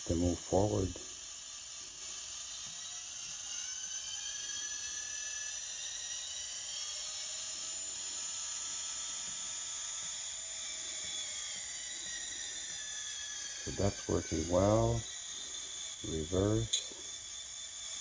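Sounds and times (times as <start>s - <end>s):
simulated locomotive engine whine: 0.0s - 18.0s.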